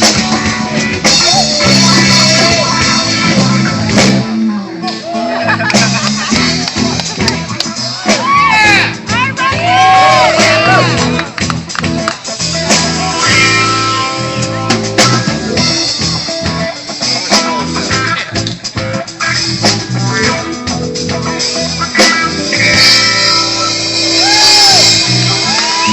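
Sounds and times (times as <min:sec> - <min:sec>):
drum kit: 0:00.0 - 0:25.9
guitar: 0:00.0 - 0:25.9.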